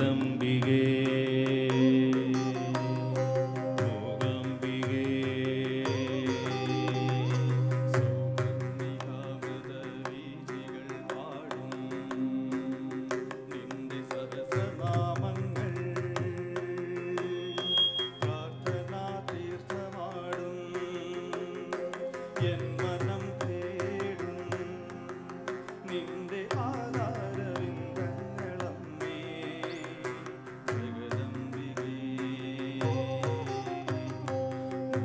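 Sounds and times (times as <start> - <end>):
plucked electric string instrument: 0.0 - 35.0
keyboard melody: 1.6 - 35.0.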